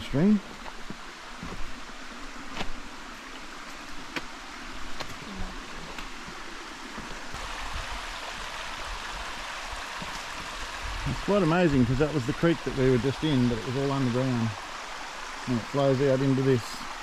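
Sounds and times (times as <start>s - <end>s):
creek flowing over stones: 0.0s - 17.0s.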